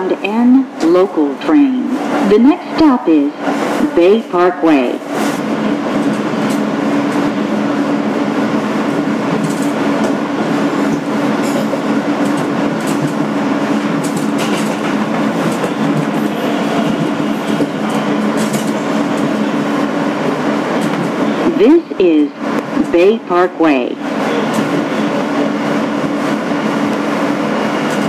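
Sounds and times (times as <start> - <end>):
subway car motor hum: 0.0 - 28.0.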